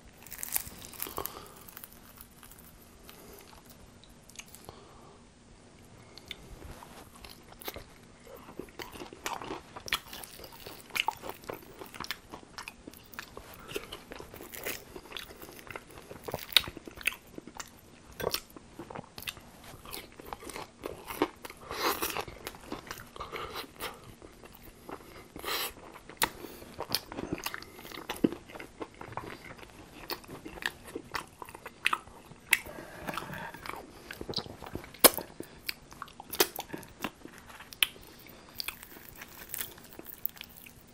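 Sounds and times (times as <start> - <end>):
crunching fried chicken: 0.0 - 4.7, 6.2 - 40.9.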